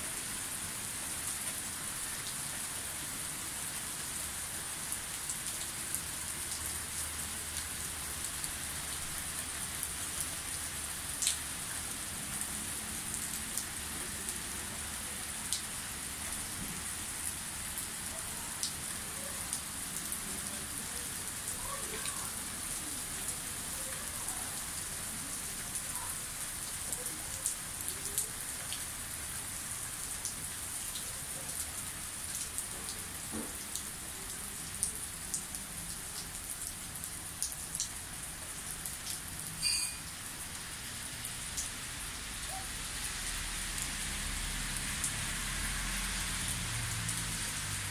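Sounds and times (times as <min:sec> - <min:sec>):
rain pattering: 0:00.1 - 0:47.9.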